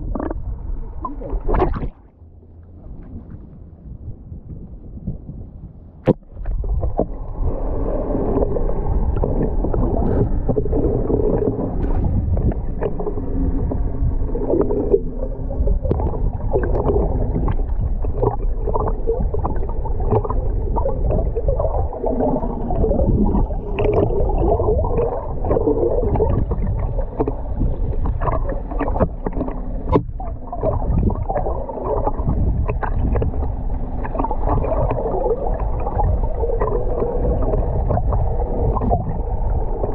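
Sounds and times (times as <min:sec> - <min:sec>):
underwater gurgling and sloshing: 0:00.0 - 0:39.9.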